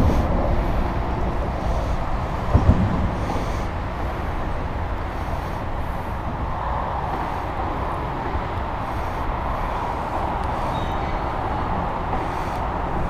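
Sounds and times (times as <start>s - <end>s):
passing road traffic: 0.0s - 13.0s.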